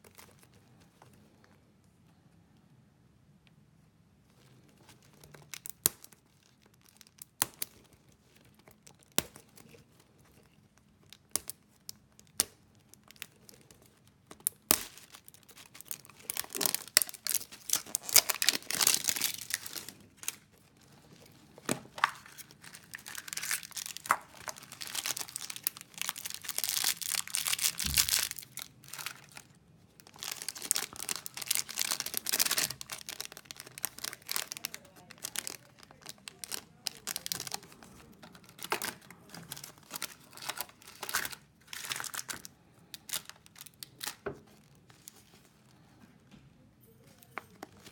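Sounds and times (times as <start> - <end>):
plastic wrapper crinkling: 0.0 - 1.6, 4.3 - 45.8, 47.0 - 47.9.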